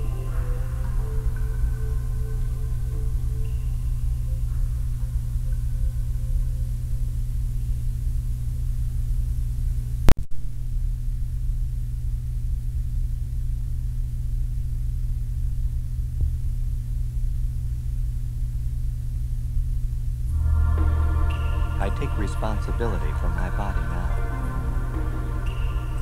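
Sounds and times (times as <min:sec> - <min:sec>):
faint tape hiss: 0:00.0 - 0:26.0
low electrical hum: 0:00.0 - 0:26.0.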